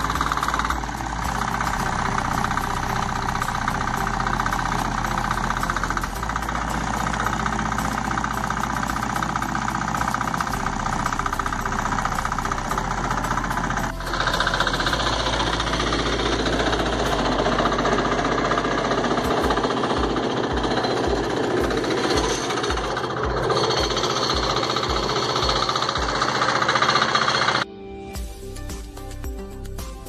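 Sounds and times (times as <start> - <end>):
tractor engine running: 0.0 - 27.7.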